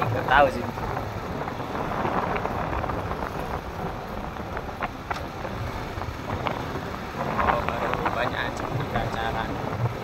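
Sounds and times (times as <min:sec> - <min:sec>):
traffic rumble: 0:00.0 - 0:10.0
wind buffeting microphone: 0:00.0 - 0:10.0.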